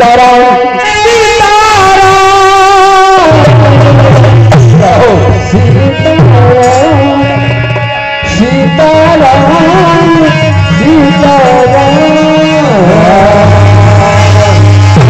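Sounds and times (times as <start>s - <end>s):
dholak drumming: 0.0s - 15.0s
harmonium playing melody: 0.0s - 15.0s.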